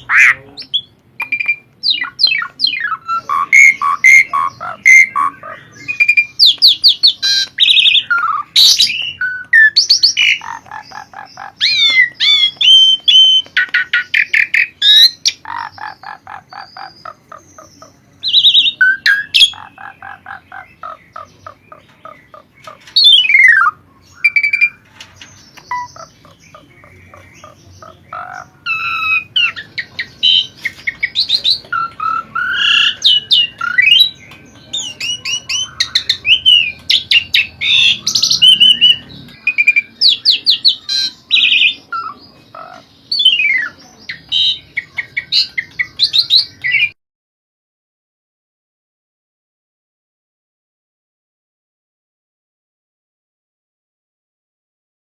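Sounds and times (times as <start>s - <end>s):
starling singing varied song: 0.0s - 24.9s, 25.6s - 46.9s.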